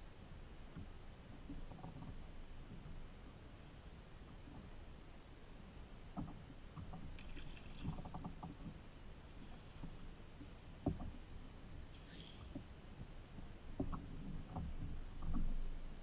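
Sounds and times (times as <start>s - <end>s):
faint water: 0.0s - 16.0s.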